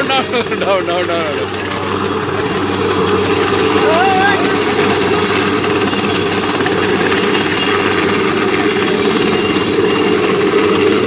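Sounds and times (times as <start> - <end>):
helicopter rotor noise: 0.0 - 11.0
high-pitched turbine whine: 0.0 - 11.0.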